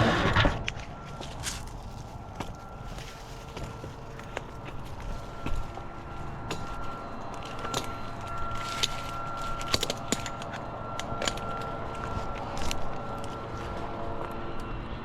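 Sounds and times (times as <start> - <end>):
machine whining: 0.0 - 15.0.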